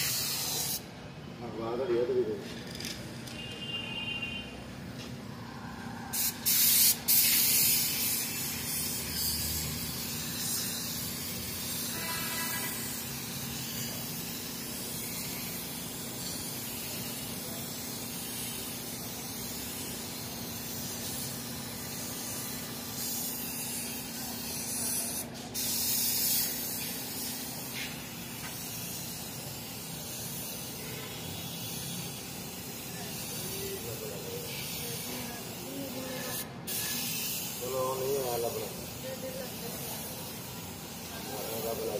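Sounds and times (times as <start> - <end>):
spray gun hissing: 0.0 - 0.9, 6.1 - 41.9.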